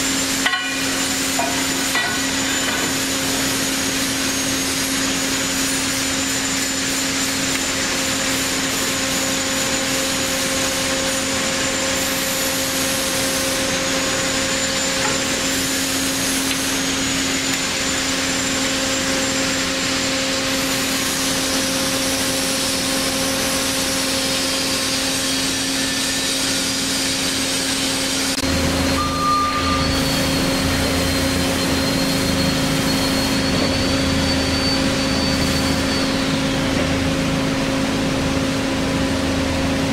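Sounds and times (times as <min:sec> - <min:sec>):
band saw motor hum: 0:00.0 - 0:39.9
high whine: 0:00.0 - 0:39.9.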